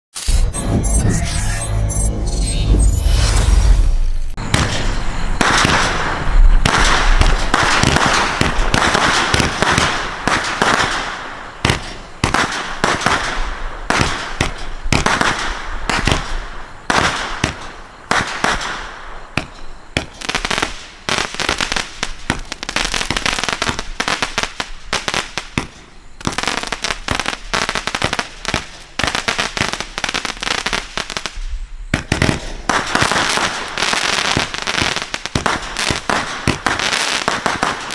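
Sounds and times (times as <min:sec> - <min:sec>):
firework crackling: 0:03.4 - 0:31.4, 0:32.0 - 0:37.9.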